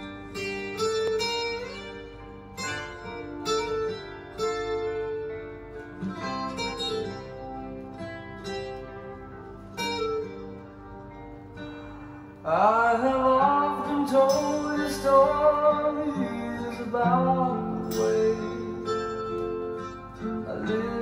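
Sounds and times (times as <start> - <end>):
acoustic guitar picked notes: 0.0 - 21.0.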